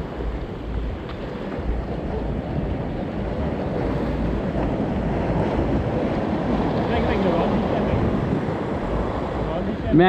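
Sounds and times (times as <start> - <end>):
surf washing: 0.0 - 10.0
wind noise on microphone: 0.0 - 10.0.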